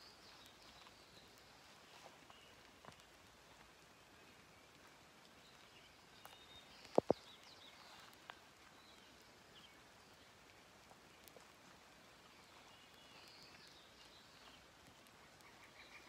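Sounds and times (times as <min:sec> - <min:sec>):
faint bird chirps: 0:00.0 - 0:16.0
low steady background hiss: 0:00.0 - 0:16.0.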